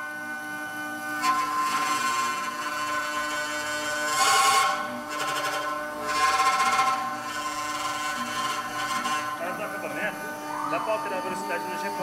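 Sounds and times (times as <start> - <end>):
cnc router whine: 0.0 - 12.0.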